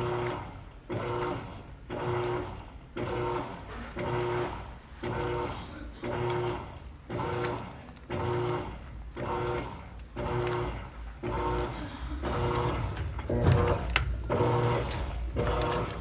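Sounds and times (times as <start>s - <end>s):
washing machine agitating: 0.0s - 16.0s.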